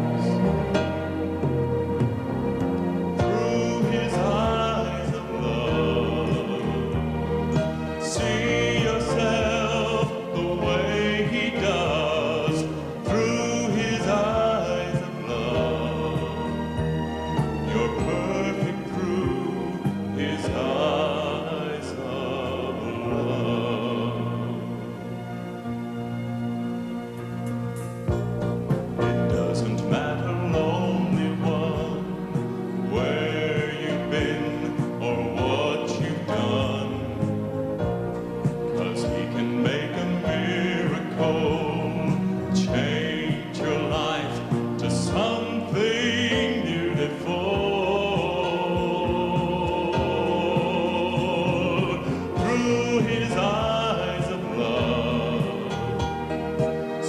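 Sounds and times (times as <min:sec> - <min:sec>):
instrumental accompaniment: 0:00.0 - 0:57.0
person singing with vibrato: 0:03.1 - 0:25.2, 0:29.0 - 0:37.6, 0:38.5 - 0:57.0.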